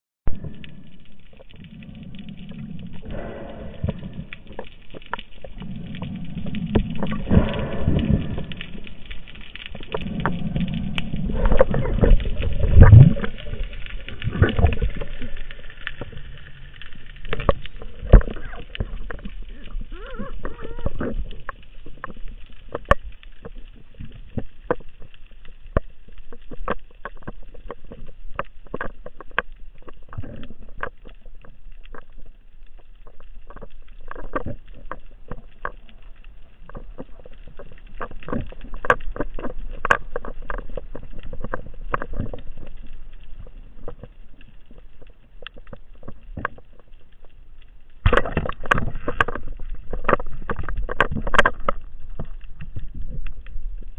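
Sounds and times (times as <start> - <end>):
underwater rush: 0.3 - 53.9.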